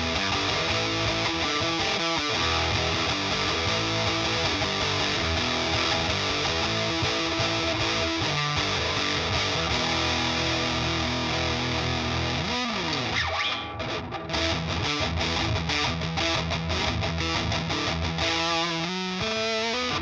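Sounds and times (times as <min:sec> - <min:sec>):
fuzzed electric guitar chords: 0:00.0 - 0:20.0.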